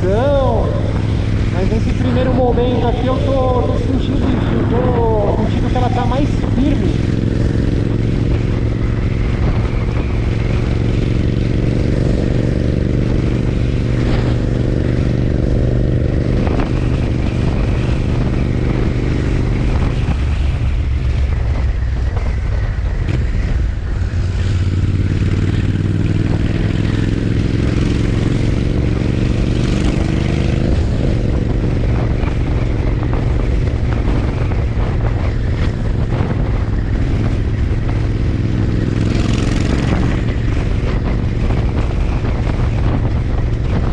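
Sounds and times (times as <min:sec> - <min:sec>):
motorcycle engine and exhaust: 0:00.0 - 0:43.9.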